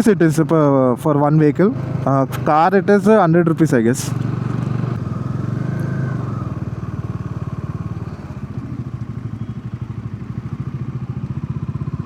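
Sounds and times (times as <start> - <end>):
motorcycle engine running: 0.6 - 12.0.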